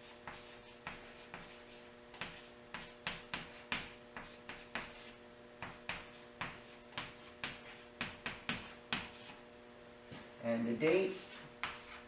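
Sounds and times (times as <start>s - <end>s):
pen scratching on paper: 0.0s - 9.4s, 11.1s - 12.0s.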